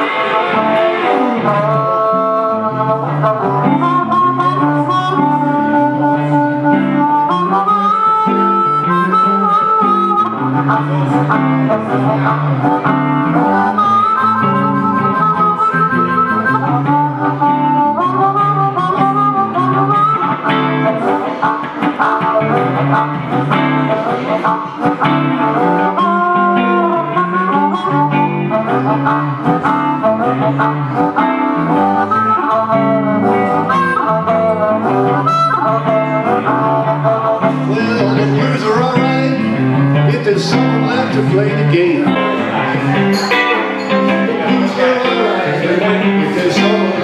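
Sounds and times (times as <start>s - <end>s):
amplified harmonica solo: 0.0s - 47.0s
rhythm electric guitar: 0.0s - 47.0s.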